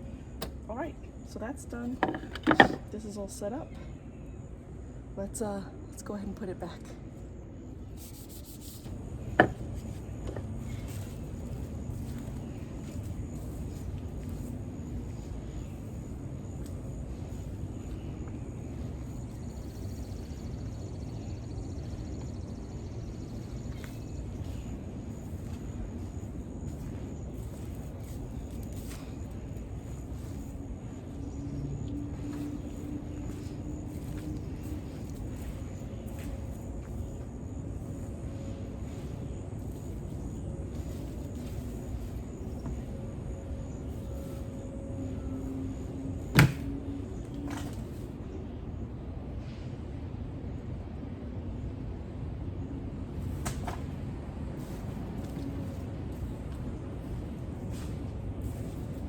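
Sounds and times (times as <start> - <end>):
low outdoor hum: 0.0 - 59.0.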